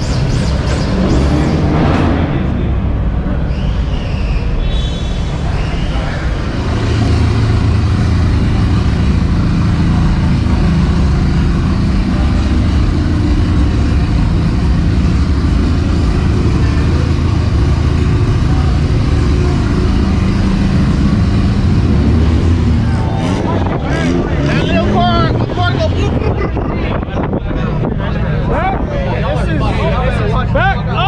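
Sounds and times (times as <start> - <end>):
car engine exhaust rumble: 0.0 - 31.0.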